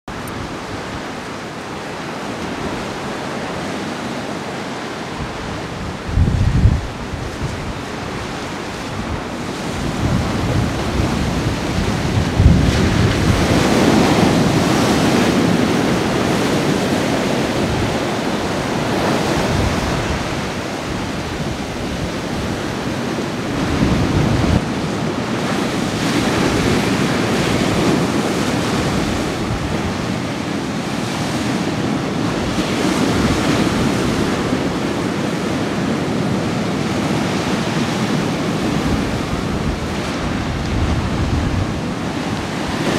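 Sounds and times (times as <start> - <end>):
ocean surf breaking on rocks: 0.1 - 42.9
wind rumble on microphone: 4.9 - 42.9.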